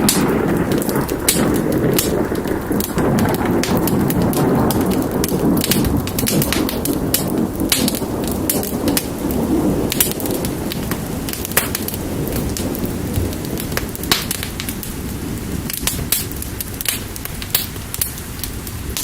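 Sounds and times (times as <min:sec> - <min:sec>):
fire crackling: 0:00.0 - 0:19.0
steady rain: 0:00.0 - 0:19.0
thunder rumbling: 0:00.0 - 0:19.0.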